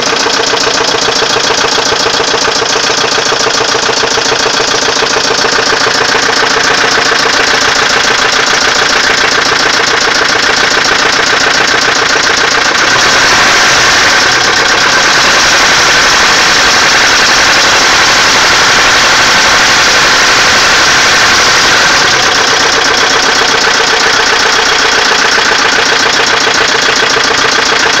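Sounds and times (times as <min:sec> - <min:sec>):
car engine knocking: 0:00.0 - 0:28.0.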